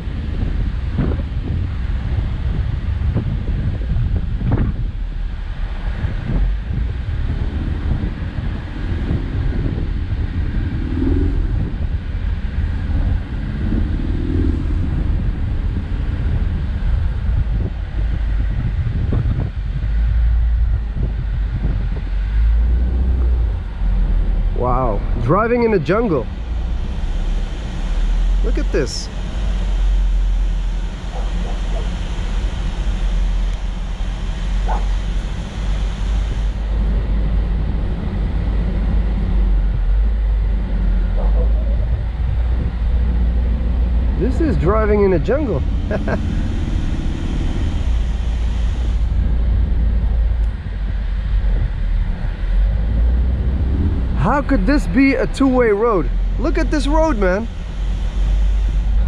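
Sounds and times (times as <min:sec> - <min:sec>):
car engine and road rumble: 0:00.0 - 0:59.0
wind on microphone: 0:00.0 - 0:59.0.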